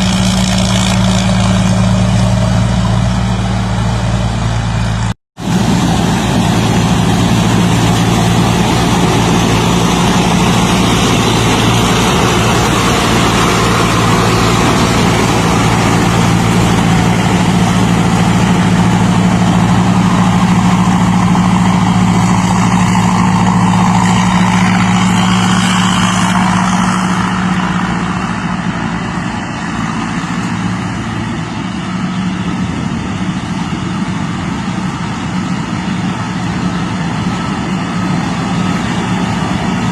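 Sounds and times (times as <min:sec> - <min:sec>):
combine harvester engine clattering: 0:00.0 - 0:39.9.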